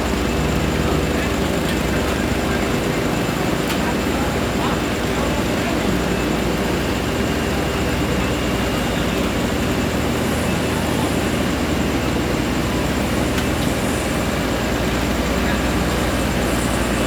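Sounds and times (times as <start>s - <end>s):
diesel engines of paving machines: 0.0s - 17.0s.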